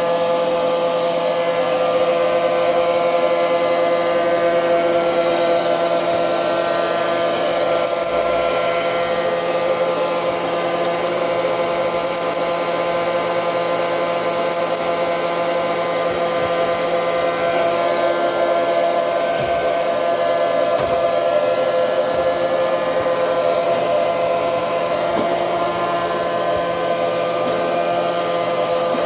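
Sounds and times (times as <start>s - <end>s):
robot vacuum cleaner running: 0.0s - 29.0s.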